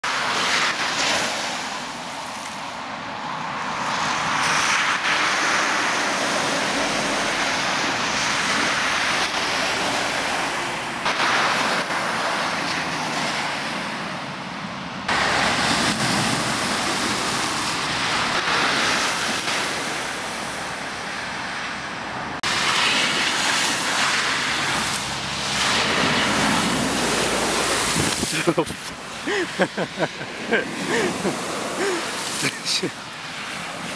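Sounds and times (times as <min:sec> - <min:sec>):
rushing splash of spray: 0:00.0 - 0:14.2, 0:15.1 - 0:21.8, 0:22.4 - 0:33.9
tyres ploughing through water: 0:03.8 - 0:14.0, 0:15.1 - 0:21.6, 0:22.4 - 0:33.9.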